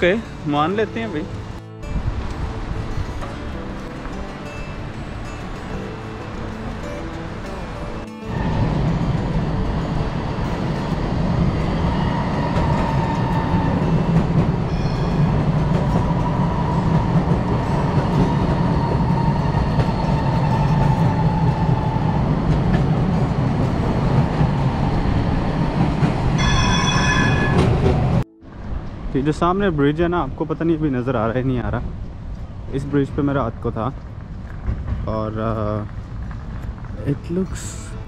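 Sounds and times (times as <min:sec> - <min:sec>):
metro train rumbling: 0:00.0 - 0:38.0.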